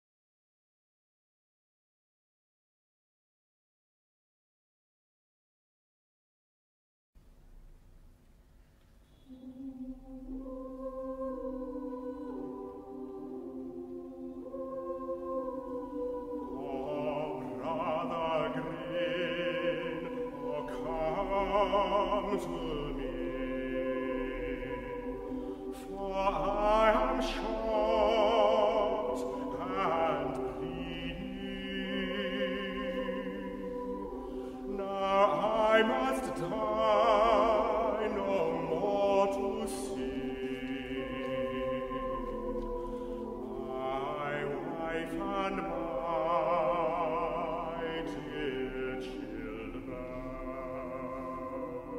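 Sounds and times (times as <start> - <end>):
choir singing sustained chords: 9.0 - 51.9.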